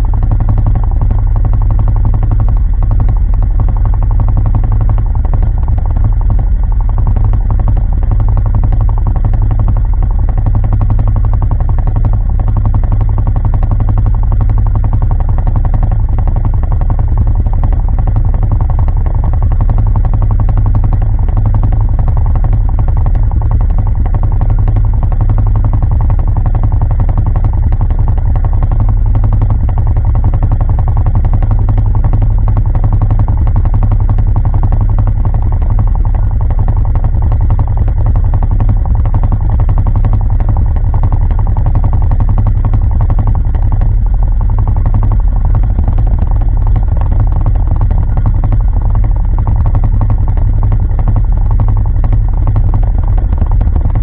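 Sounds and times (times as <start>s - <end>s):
atv engine idling: 0.0s - 54.0s.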